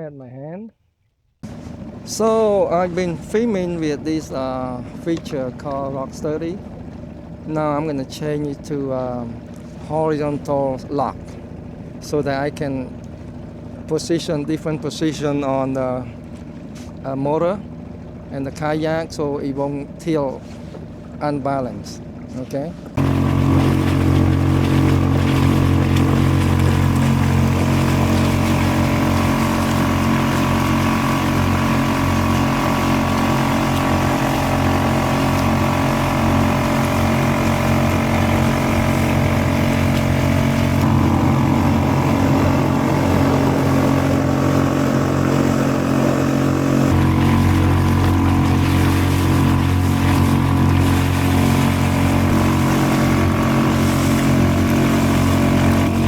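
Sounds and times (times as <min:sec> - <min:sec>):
outboard motor running: 0:01.3 - 0:56.0.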